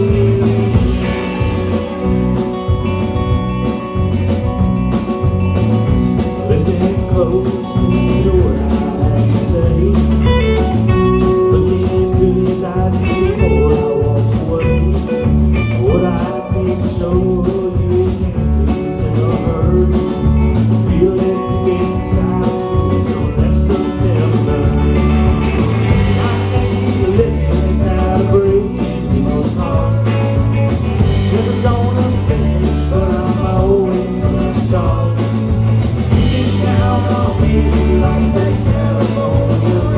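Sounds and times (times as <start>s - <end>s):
live blues-rock band playing: 0.0s - 39.9s.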